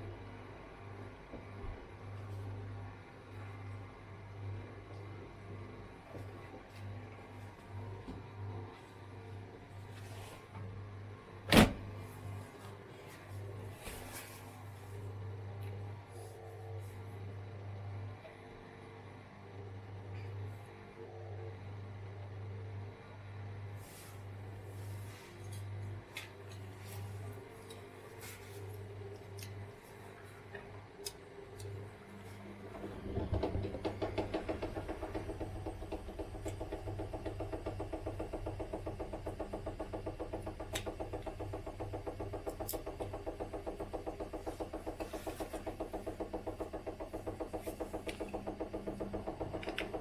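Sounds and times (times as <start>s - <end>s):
washing machine spinning: 0.0s - 16.1s, 23.8s - 50.0s.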